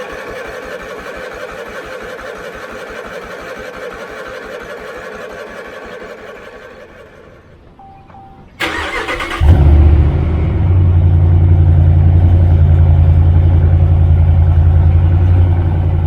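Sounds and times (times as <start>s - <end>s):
riding lawn mower engine: 0.0s - 16.0s.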